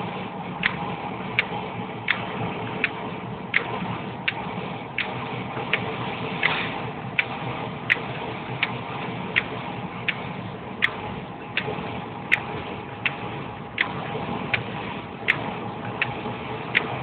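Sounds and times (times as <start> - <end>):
road and engine noise: 0.0 - 17.0
windshield wipers clicking: 1.4 - 17.0.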